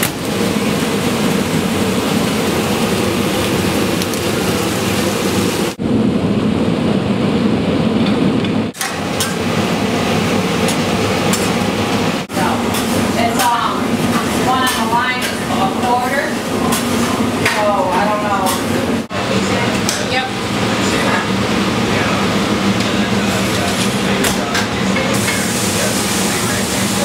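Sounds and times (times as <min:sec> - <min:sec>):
griddle sizzling: 0:00.0 - 0:05.8, 0:08.7 - 0:27.0.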